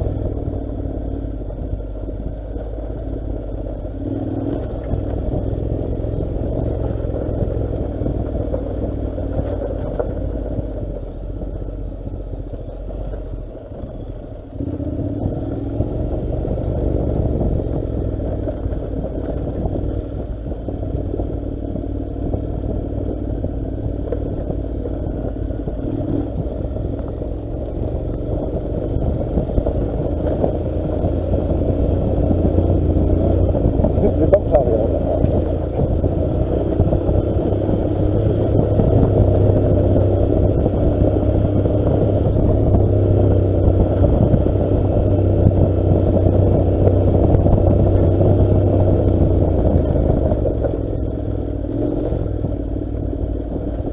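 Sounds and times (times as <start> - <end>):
motorcycle engine running: 0.0 - 53.9
wind noise: 0.0 - 53.9.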